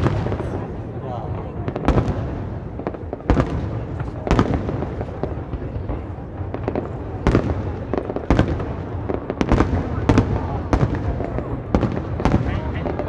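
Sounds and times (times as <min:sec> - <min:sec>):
firework booms: 0:00.0 - 0:13.0
firework crackling: 0:00.0 - 0:13.0.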